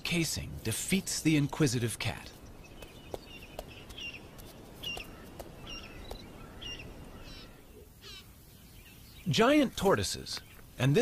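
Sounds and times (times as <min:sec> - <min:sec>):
birds chirping: 0:00.0 - 0:11.0
faint outdoor hiss: 0:00.0 - 0:11.0.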